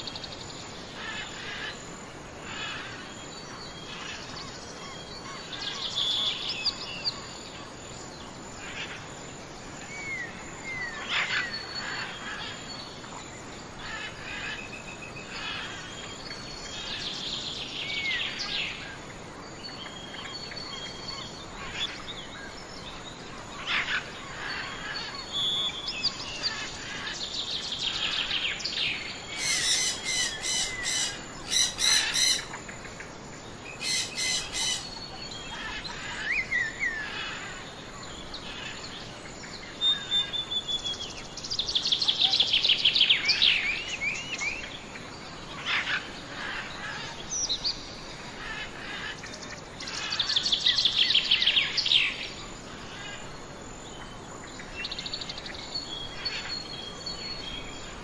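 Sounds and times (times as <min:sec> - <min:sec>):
birds trilling and chirping: 0:00.0 - 0:58.0.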